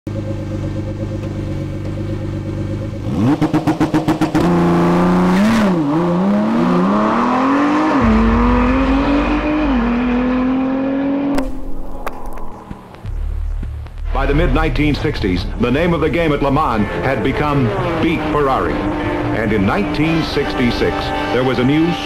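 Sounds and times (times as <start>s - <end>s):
sports car engine revving: 0.1s - 14.0s, 15.8s - 21.4s.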